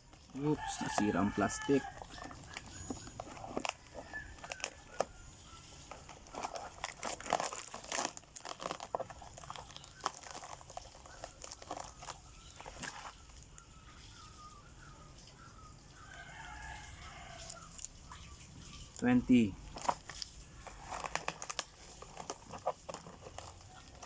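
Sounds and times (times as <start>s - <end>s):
plastic packaging crinkling: 0.0s - 14.3s, 16.0s - 24.0s.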